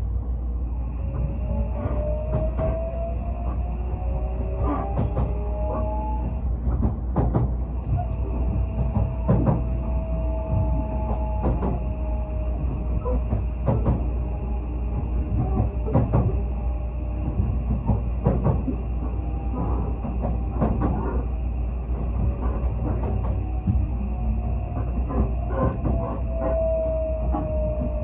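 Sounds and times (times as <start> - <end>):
electric train rumbling: 0.0 - 28.0.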